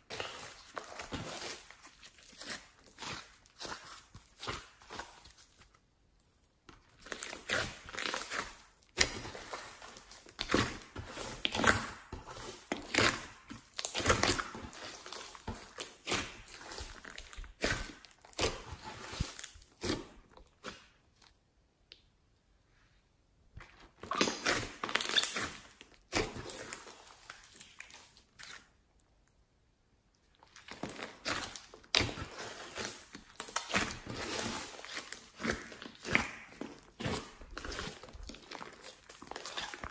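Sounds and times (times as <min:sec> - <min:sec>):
wet slime squelches: 0:00.0 - 0:39.9.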